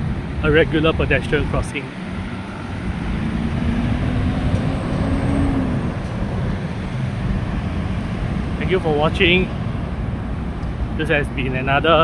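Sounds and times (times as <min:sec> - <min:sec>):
vehicle engine passing: 0:00.0 - 0:11.0
steady traffic rumble: 0:00.0 - 0:12.0.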